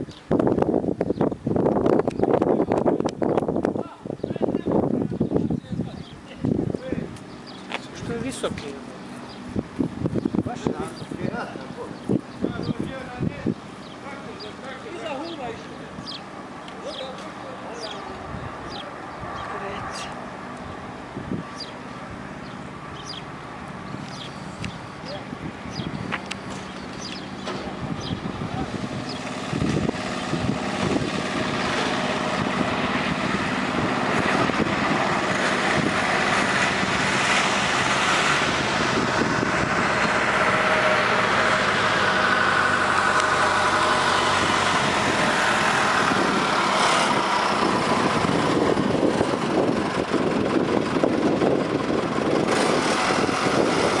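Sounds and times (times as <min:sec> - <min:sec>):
aircraft engine roar: 0:00.0 - 0:54.0
pitch-sliding engine whine: 0:05.9 - 0:54.0.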